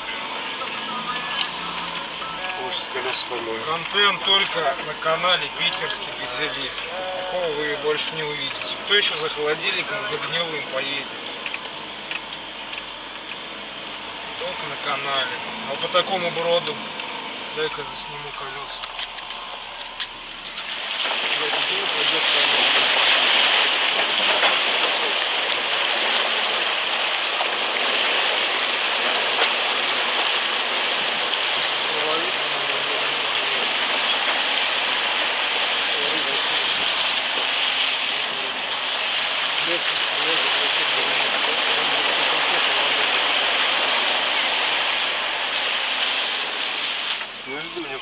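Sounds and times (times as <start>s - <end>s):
tyres splashing through water: 0.0s - 48.0s.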